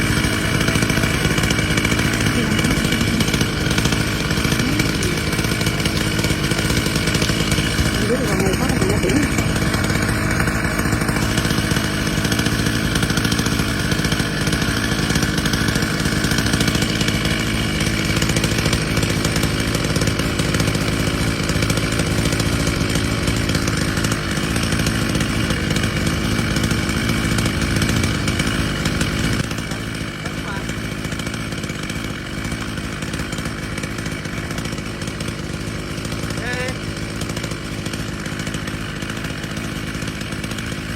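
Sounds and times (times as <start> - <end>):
chainsaw engine running: 0.0 - 40.9.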